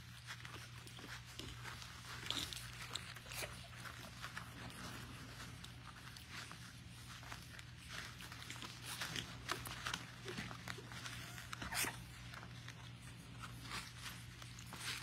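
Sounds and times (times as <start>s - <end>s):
puppies rustling and scratching: 0.0s - 15.0s.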